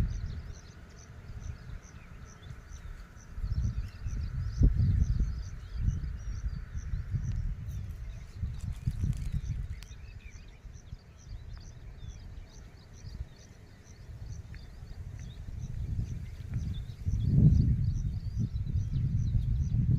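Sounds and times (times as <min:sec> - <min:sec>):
birds chirping: 0:00.0 - 0:19.9
wind rumble on microphone: 0:00.0 - 0:19.9.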